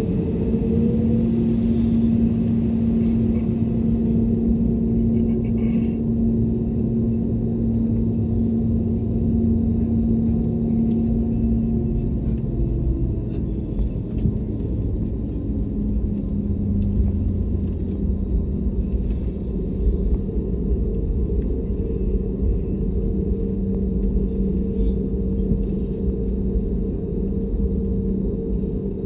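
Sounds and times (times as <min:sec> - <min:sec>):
airplane cabin engine rumble: 0:00.0 - 0:29.0
droning hum: 0:00.0 - 0:29.0.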